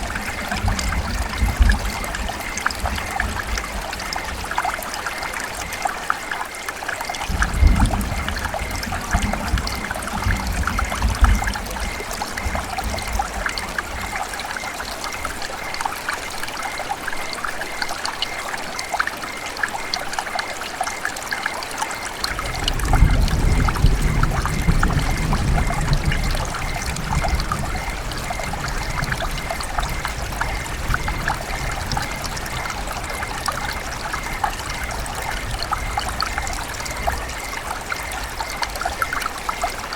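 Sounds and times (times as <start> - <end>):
river water trickling: 0.0 - 39.9.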